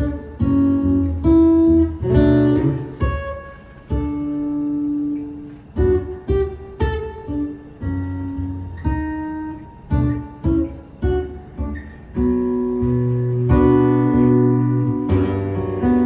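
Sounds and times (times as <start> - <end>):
strummed acoustic guitar chords: 0.0 - 16.0.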